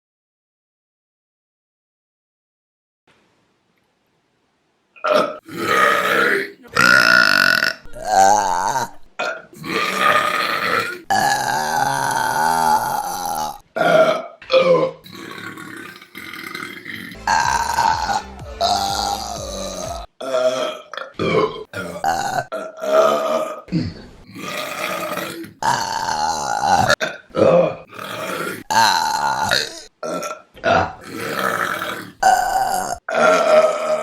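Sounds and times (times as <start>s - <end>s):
woman burping: 5.0s - 34.0s.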